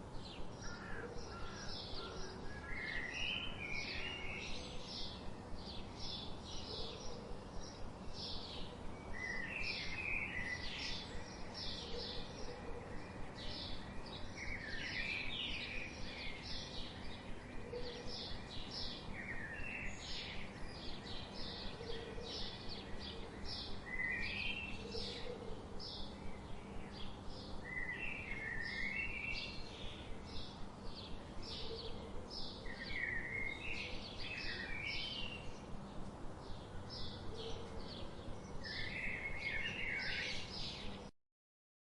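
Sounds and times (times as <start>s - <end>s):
small songbirds chirping: 0.0s - 41.1s.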